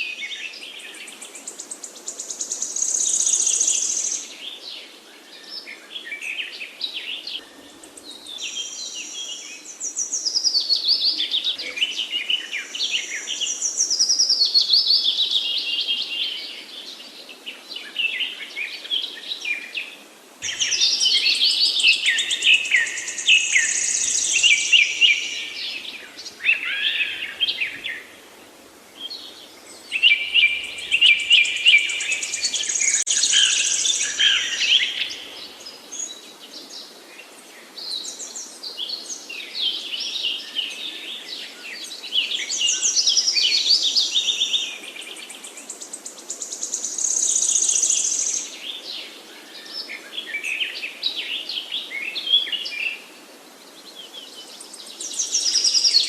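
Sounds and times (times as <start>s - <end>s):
songbirds chorus: 0.0s - 56.0s.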